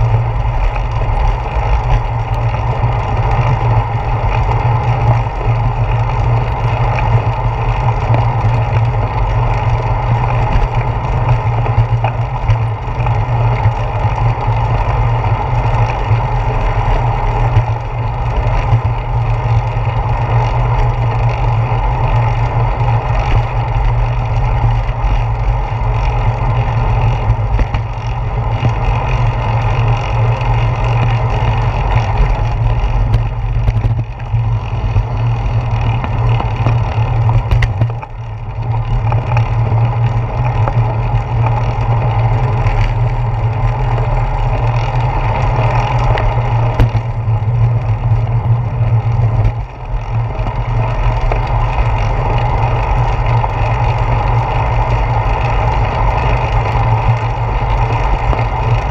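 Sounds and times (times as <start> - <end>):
bicycle road rumble: 0.0 - 58.9.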